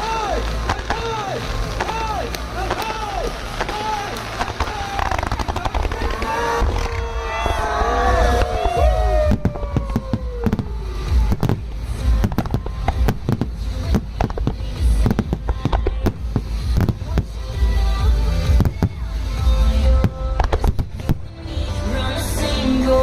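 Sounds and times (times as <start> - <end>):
deep booming rumble: 0.0 - 22.1
fireworks bursting and crackling: 0.0 - 23.0.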